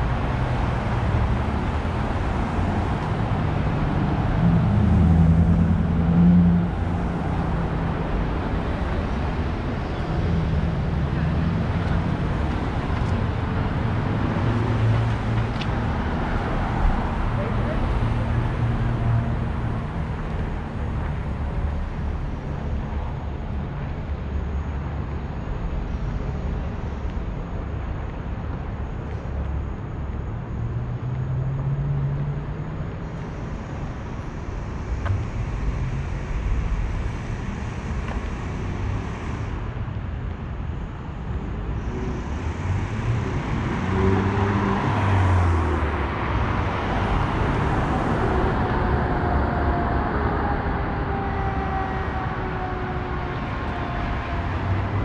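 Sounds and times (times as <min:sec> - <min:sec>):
street traffic passing: 0:00.0 - 0:55.0.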